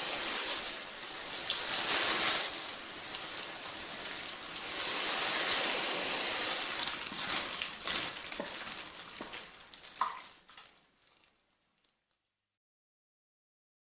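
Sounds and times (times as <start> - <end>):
water dripping: 0.0 - 12.3
water sprinkling onto plants: 0.0 - 12.3.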